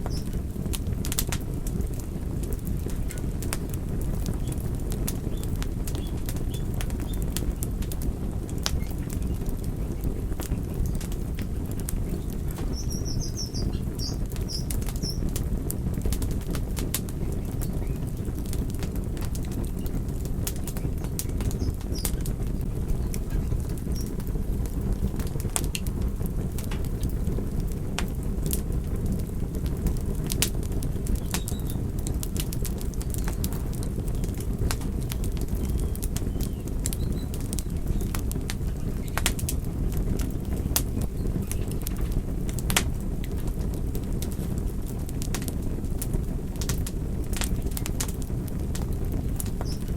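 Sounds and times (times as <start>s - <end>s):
low rumble of flames: 0.0s - 49.9s
wood fire crackling: 0.0s - 49.9s.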